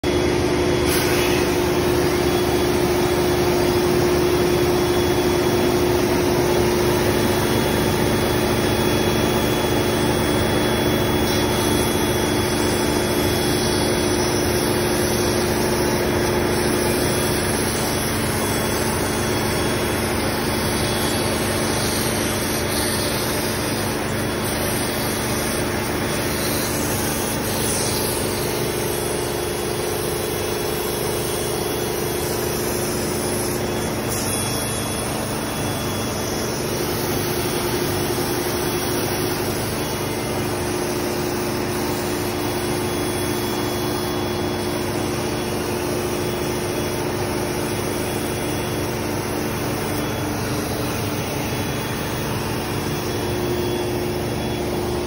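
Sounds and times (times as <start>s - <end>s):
cnc router machine drone: 0.0s - 55.0s.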